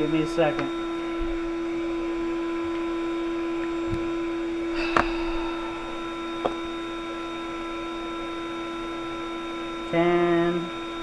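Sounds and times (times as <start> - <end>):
electric air pump humming: 0.0 - 11.0.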